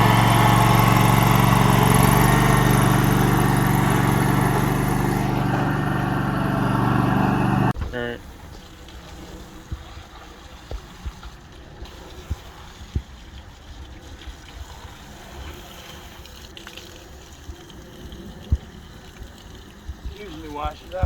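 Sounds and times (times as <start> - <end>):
hose water spraying and splashing: 0.0 - 6.8, 8.0 - 21.0.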